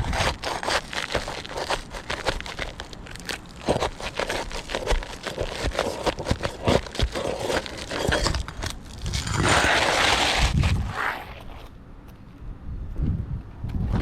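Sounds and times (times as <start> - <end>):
roof shingles scraped and pried: 0.0 - 11.7.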